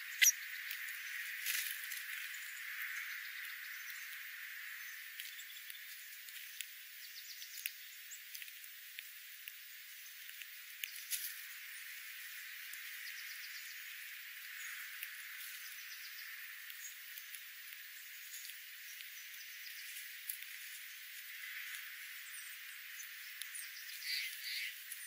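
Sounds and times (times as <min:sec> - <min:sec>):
beaks pecking and cracking seed: 0:00.0 - 0:25.0.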